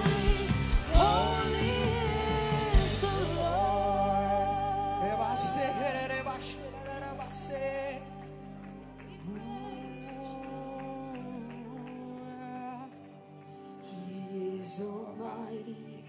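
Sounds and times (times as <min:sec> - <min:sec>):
worship band and singers: 0:00.0 - 0:16.0.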